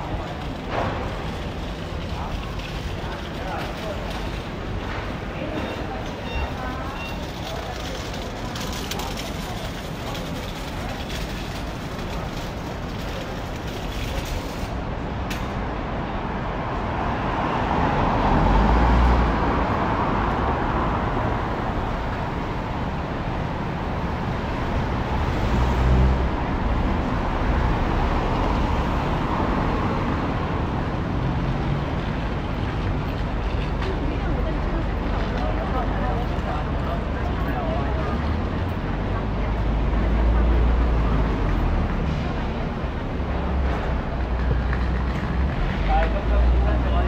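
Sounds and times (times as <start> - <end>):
vehicles passing close by: 0.0 - 47.0.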